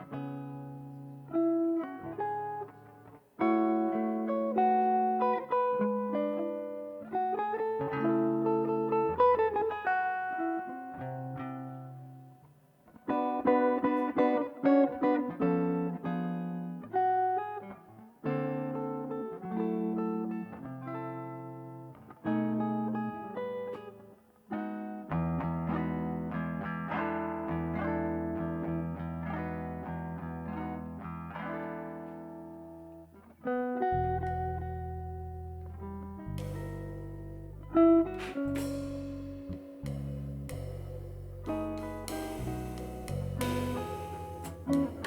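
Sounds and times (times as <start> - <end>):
guitar playing plucked chords: 0.0 - 45.0.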